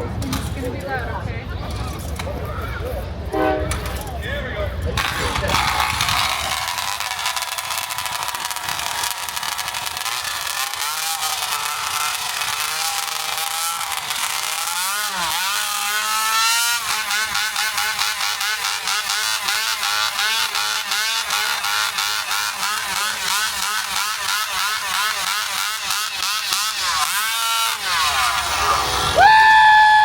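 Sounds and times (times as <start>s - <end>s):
chainsaw revving hard: 5.0s - 30.0s.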